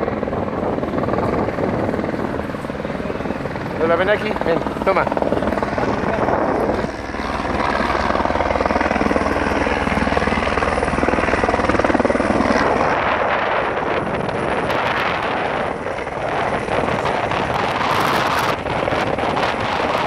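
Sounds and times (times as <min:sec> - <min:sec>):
helicopter rotor beating: 0:00.0 - 0:20.0.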